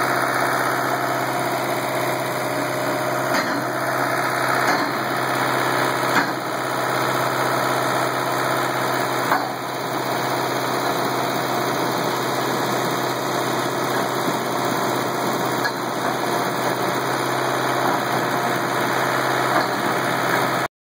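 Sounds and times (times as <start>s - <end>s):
pipe straightener machine drone: 0.0s - 20.7s.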